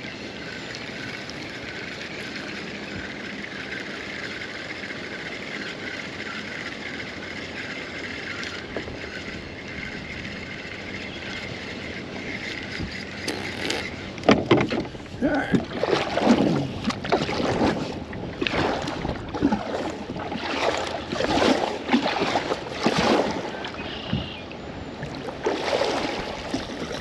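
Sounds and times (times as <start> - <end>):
river wash: 0.0 - 27.0.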